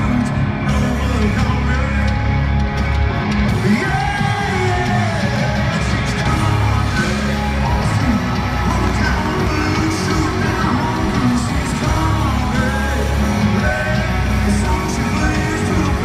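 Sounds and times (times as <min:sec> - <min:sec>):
man singing: 0:00.0 - 0:02.6, 0:03.5 - 0:16.0
crowd yelling along: 0:00.0 - 0:16.0
heavy bass: 0:00.0 - 0:16.0
live country-rock band: 0:00.0 - 0:16.0.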